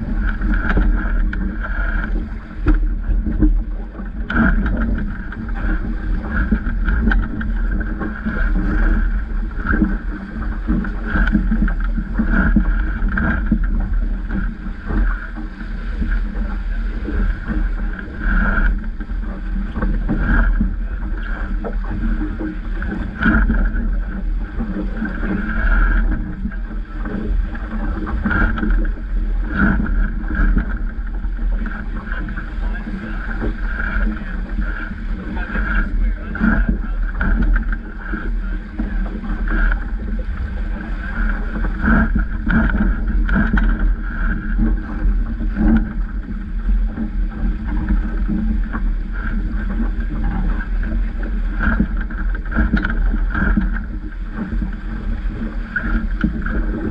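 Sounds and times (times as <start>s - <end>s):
water splashing along a boat hull: 0.0s - 56.9s
wind rumble on microphone: 0.0s - 56.9s.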